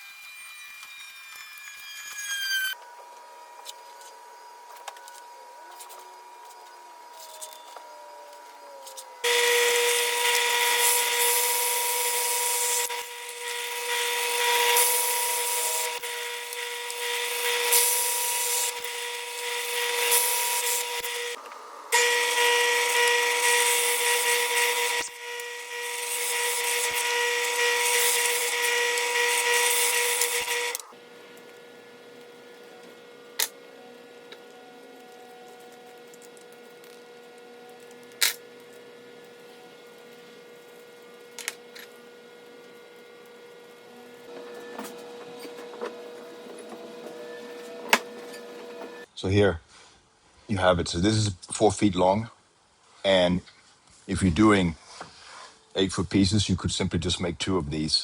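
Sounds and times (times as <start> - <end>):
power tool cutting wood: 0.0 - 49.1.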